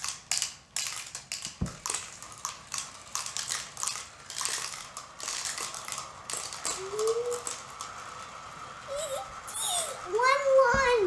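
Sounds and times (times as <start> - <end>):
marbles clattering down plastic track: 0.0 - 11.0.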